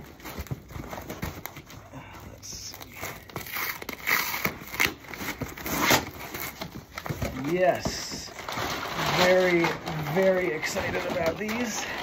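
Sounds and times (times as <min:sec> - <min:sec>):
cardboard flaps scraping: 0:00.0 - 0:12.0
packing tape tearing: 0:00.0 - 0:12.0.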